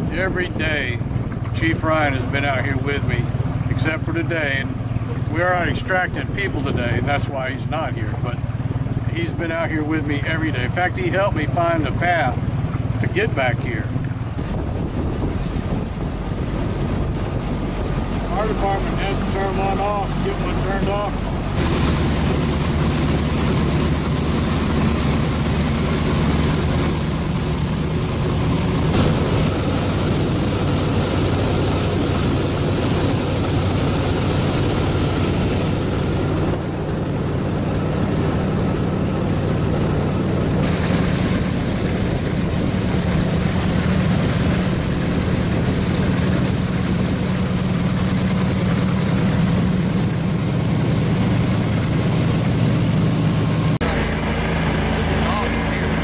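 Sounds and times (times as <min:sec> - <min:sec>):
boat engine running: 0:00.0 - 0:56.0
rushing wind: 0:00.0 - 0:56.0
water rushing: 0:00.0 - 0:56.0.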